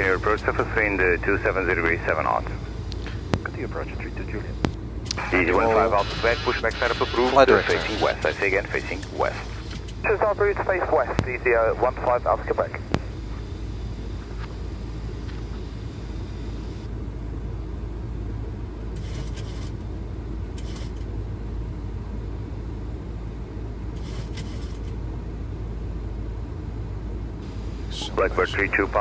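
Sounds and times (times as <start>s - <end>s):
low rumble of airflow and engines: 0.0s - 29.0s.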